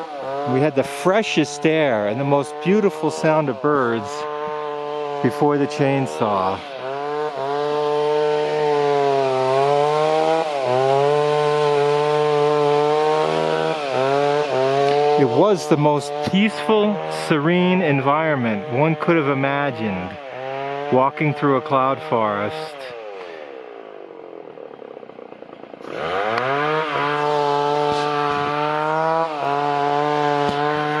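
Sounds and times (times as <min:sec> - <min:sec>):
chainsaw cutting trees: 0:00.0 - 0:31.0.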